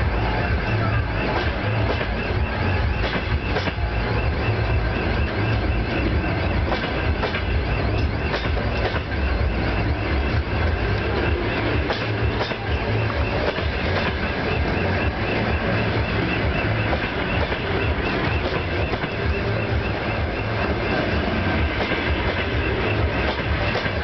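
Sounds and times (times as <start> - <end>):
train rolling rumble: 0.0 - 24.0
train wheels clicking on rail joints: 0.0 - 24.0.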